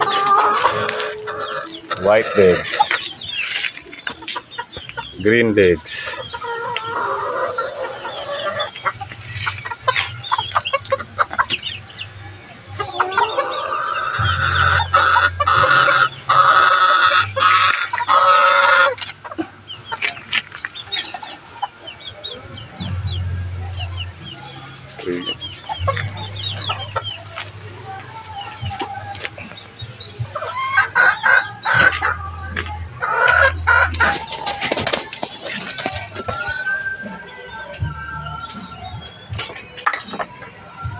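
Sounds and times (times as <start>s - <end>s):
roosters clucking: 0.0s - 40.9s.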